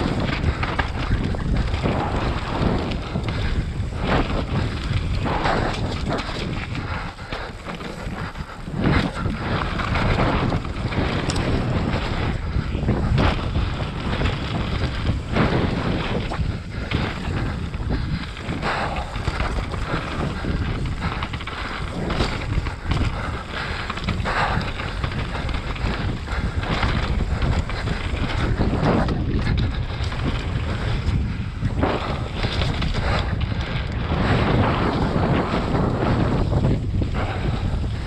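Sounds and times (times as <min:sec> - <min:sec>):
tyres rumbling on dirt: 0:00.0 - 0:38.0
wind buffeting microphone: 0:00.0 - 0:38.0.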